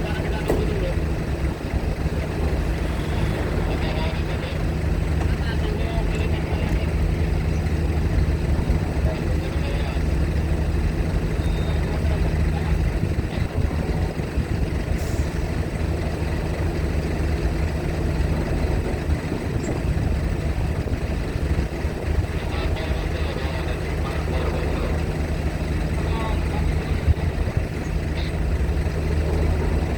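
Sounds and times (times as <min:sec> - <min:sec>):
heavy engines idling: 0:00.0 - 0:29.9.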